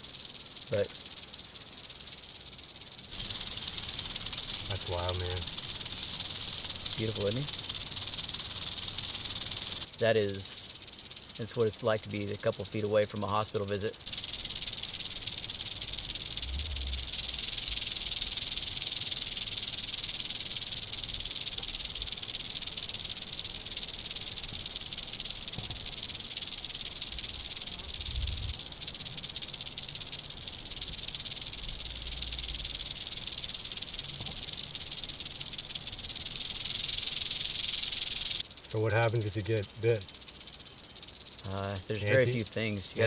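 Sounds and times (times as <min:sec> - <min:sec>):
rattlesnake rattling: 0:00.0 - 0:43.0.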